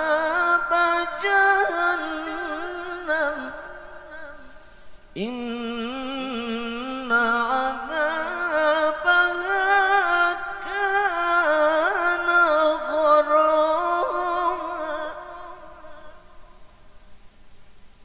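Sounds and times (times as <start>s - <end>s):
man reciting melodically: 0.0s - 16.7s.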